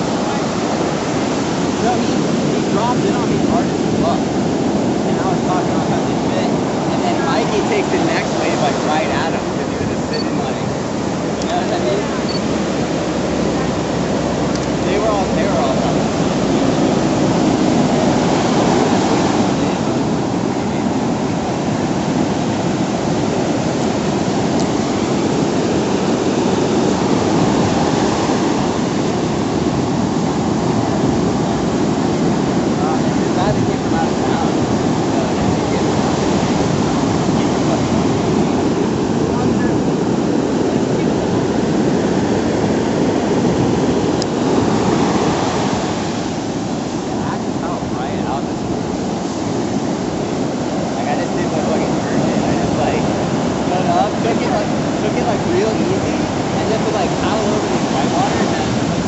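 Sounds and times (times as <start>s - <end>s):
ocean surf breaking ashore: 0.0s - 59.0s.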